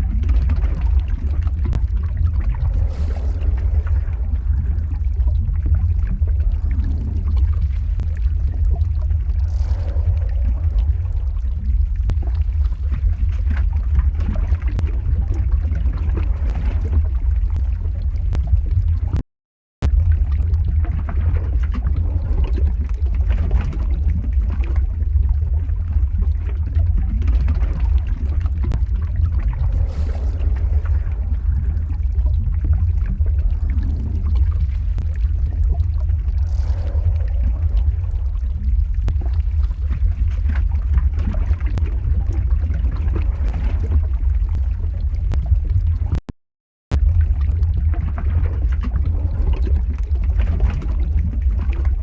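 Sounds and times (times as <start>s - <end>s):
deep rumble: 0.0s - 19.2s, 19.8s - 46.3s, 46.9s - 52.0s
lava bubbling and popping: 0.0s - 19.2s, 19.8s - 46.3s, 46.9s - 52.0s
small crackles: 0.0s - 19.2s, 19.8s - 46.2s.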